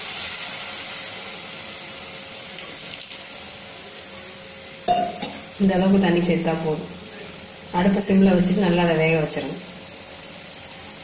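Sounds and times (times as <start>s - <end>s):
flowers sizzling in a pan: 0.0s - 11.0s.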